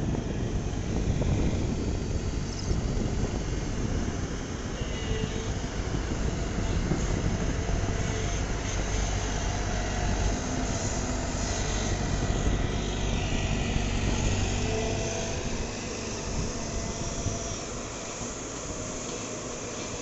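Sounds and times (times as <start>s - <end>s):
excavator diesel engine drone: 0.0s - 20.0s.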